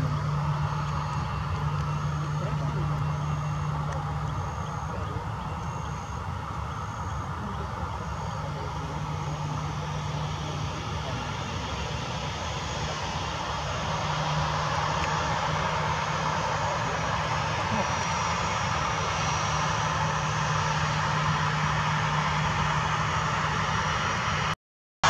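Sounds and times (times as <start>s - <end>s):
jet engines rumbling and hissing: 0.0s - 24.6s.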